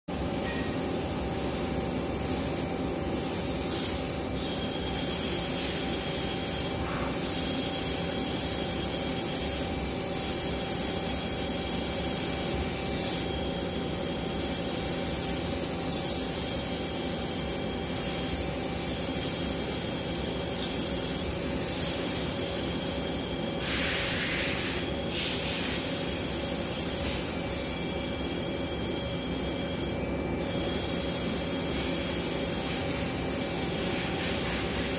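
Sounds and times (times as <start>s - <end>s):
machine whining tones: 0.1s - 34.9s.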